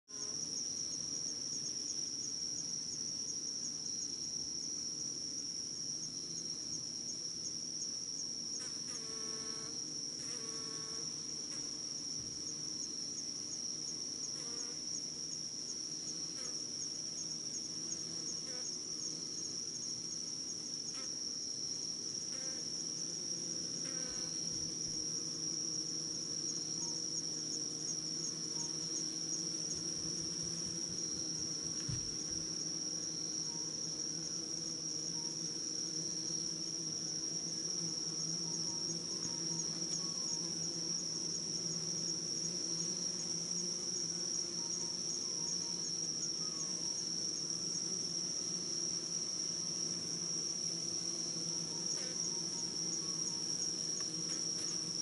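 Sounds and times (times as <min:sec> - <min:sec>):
bees buzzing hum: 0:00.1 - 0:55.0
high-pitched insect trill: 0:00.1 - 0:55.0.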